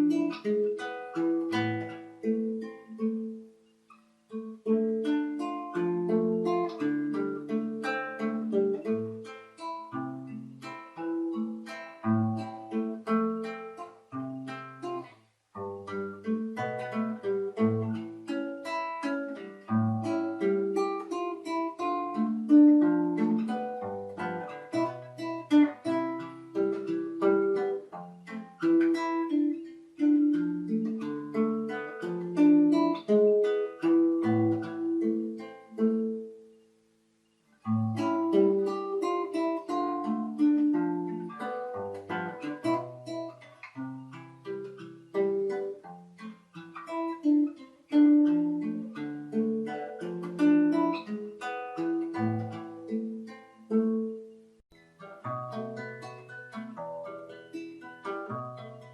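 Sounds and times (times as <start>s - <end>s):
acoustic guitar melody: 0.0s - 58.9s.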